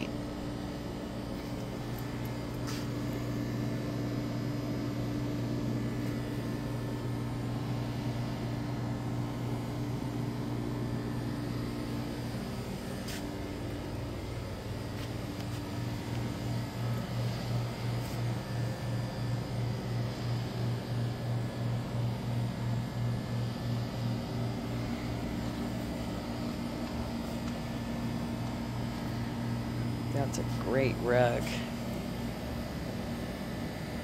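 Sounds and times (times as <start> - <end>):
ventilation hum: 0.0 - 34.0.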